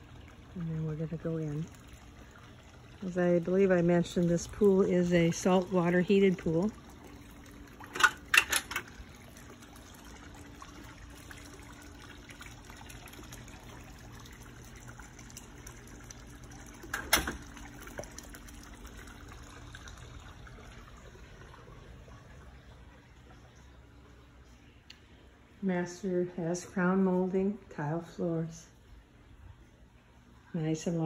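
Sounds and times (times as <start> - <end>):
water trickling: 0.0 - 31.0.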